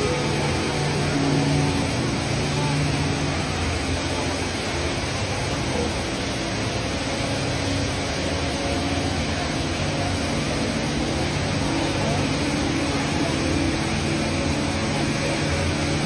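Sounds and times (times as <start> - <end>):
indoor waterfall pouring: 0.0 - 16.0.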